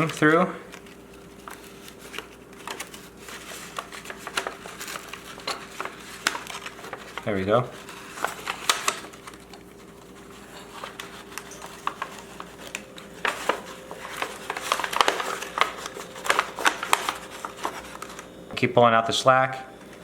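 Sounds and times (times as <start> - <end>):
material crinkling: 0.0 - 18.4.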